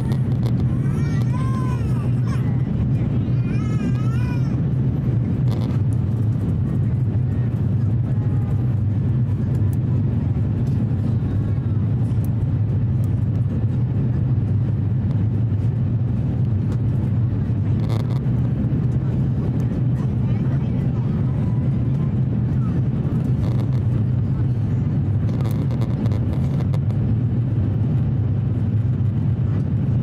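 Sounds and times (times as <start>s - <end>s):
airplane cabin engine drone: 0.0s - 30.0s
faint passenger voices: 0.0s - 30.0s.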